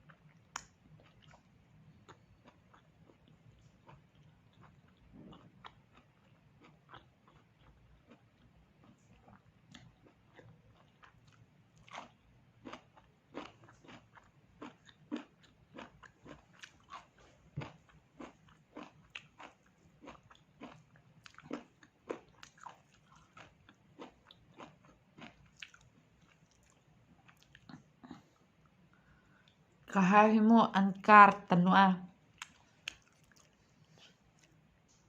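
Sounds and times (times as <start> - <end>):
moist chewing: 0.1 - 28.4, 32.4 - 35.0.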